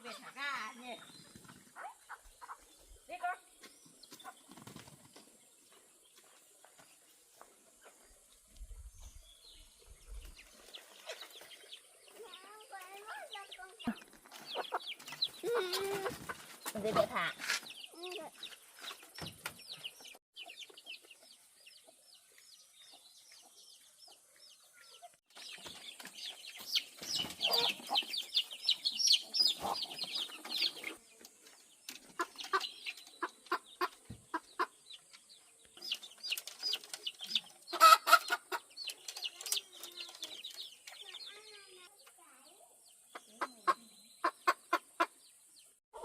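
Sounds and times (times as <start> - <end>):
chickens clucking and peeping: 0.0 - 46.0.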